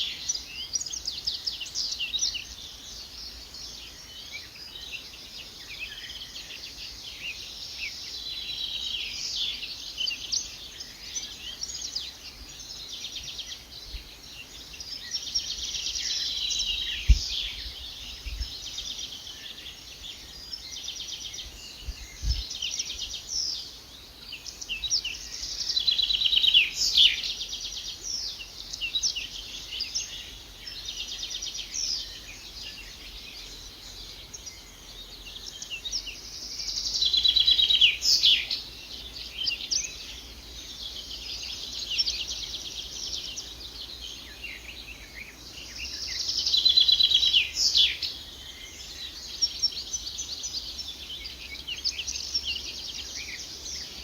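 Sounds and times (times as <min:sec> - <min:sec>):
birds trilling and chirping: 0:00.0 - 0:54.0.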